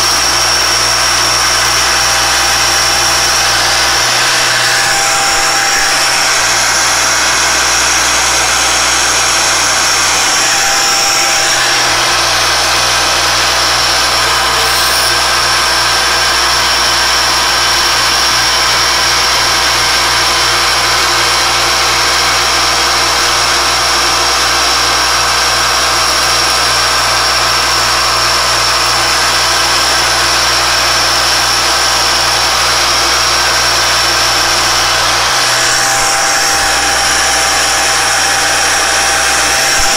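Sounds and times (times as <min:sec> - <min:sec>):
milling machine whining: 0:00.0 - 0:39.9.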